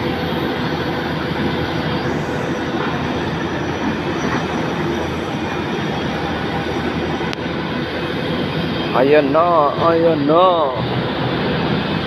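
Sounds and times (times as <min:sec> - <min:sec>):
air-conditioning equipment drone: 0:00.0 - 0:12.0.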